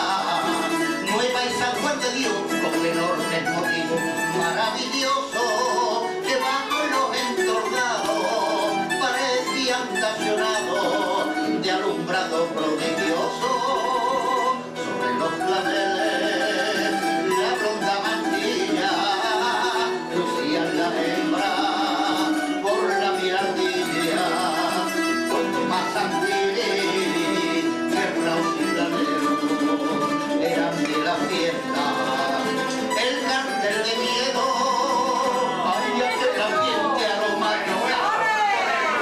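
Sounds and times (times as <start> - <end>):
plucked string chords: 0.0 - 38.2
person singing with vibrato: 0.0 - 39.0.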